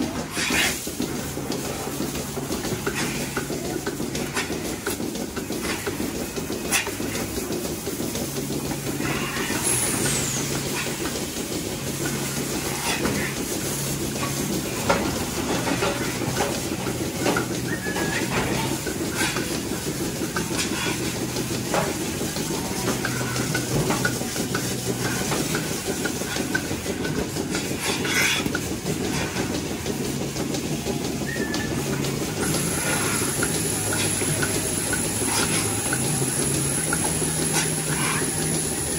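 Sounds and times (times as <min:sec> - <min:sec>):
clicks and clanks of milking clusters: 0:00.0 - 0:38.9
milking machinery hum and hiss: 0:00.0 - 0:38.9.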